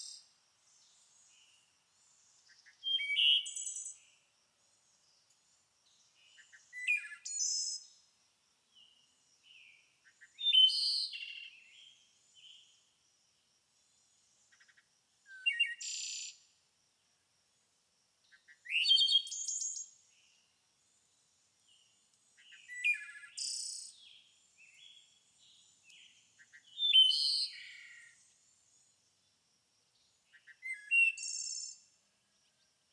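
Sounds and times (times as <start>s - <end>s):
songbird singing: 0.0s - 13.0s, 13.8s - 16.5s, 18.2s - 32.9s.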